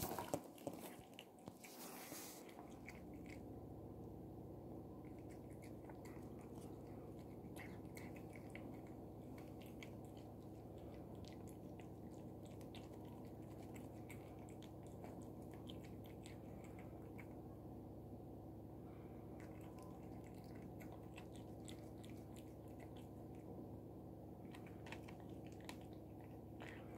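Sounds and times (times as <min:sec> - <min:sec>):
cat chewing and licking: 0:00.0 - 0:26.9
steady low hum: 0:00.0 - 0:26.9.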